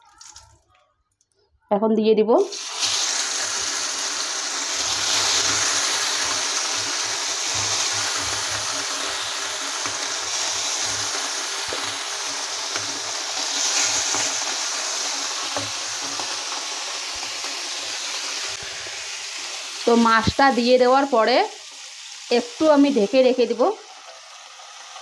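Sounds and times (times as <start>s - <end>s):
fish sizzling in hot oil: 2.4s - 25.0s.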